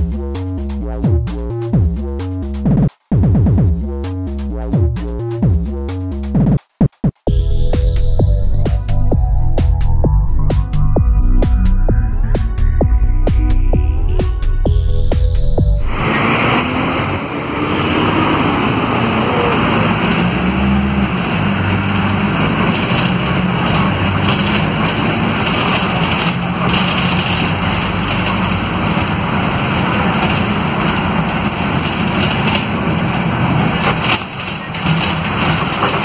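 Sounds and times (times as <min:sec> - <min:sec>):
bus diesel engine running: 0:00.0 - 0:02.7, 0:07.3 - 0:36.0
road and cabin noise: 0:00.0 - 0:36.0.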